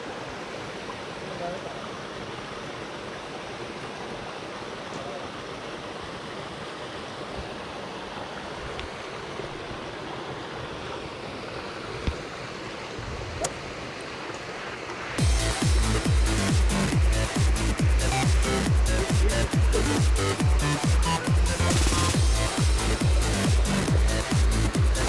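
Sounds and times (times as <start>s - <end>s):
stream rushing over stones: 0.0s - 25.0s.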